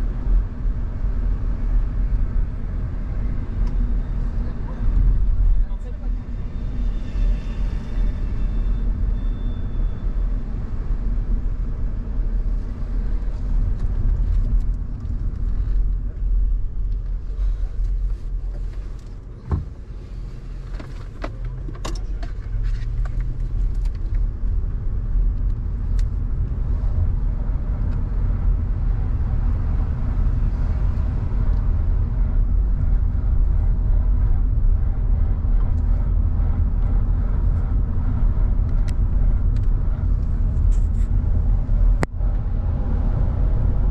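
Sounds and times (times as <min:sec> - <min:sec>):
car engine and road rumble: 0:00.0 - 0:43.9.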